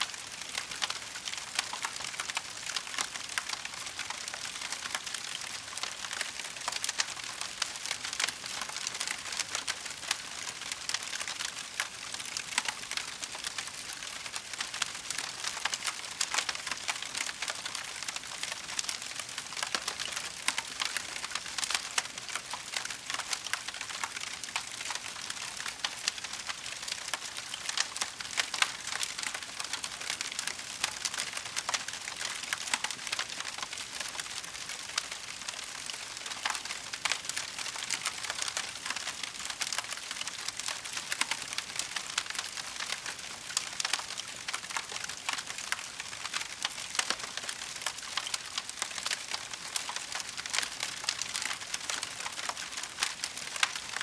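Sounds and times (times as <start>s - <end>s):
wood fire crackling: 0.2s - 54.0s.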